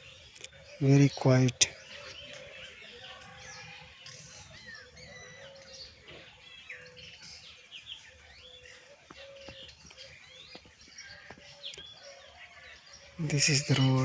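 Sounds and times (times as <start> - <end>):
birds chirping and singing: 0.0 - 14.0.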